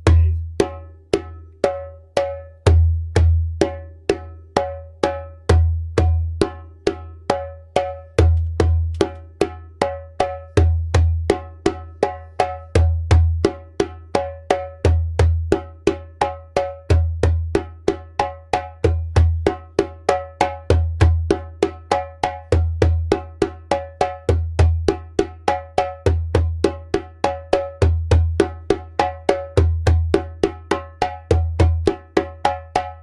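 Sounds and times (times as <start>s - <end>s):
djembe played by hand: 0.0s - 33.0s.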